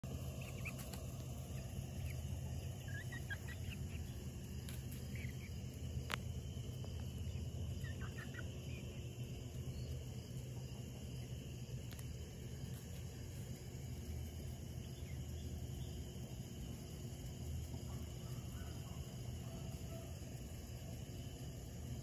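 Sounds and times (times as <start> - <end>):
low background noise: 0.0 - 22.0
chickens peeping: 0.1 - 20.2.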